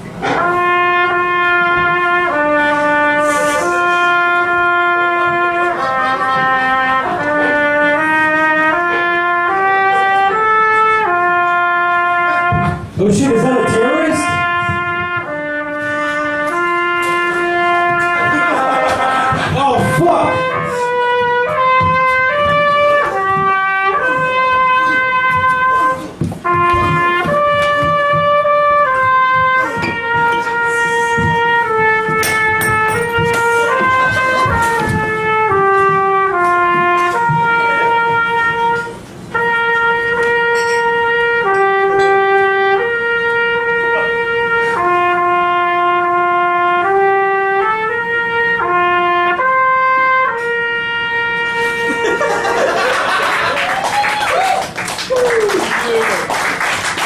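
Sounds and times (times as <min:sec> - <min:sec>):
solo trumpet melody: 0:00.0 - 0:54.0.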